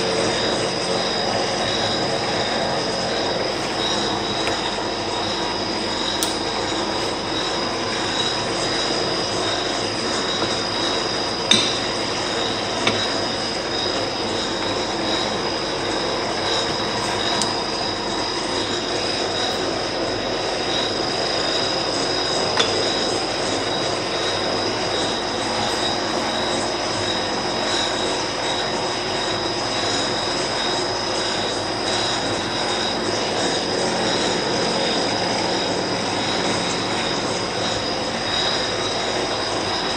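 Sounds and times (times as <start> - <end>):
lathe running: 0.0 - 39.9.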